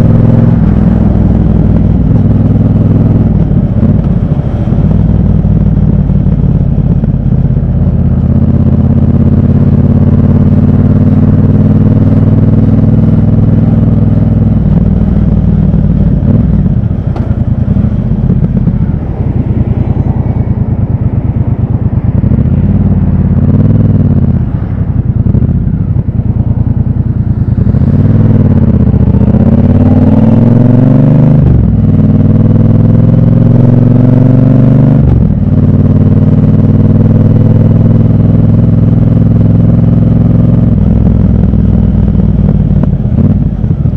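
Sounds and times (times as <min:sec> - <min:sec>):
motorcycle engine and exhaust: 0:00.0 - 0:43.9.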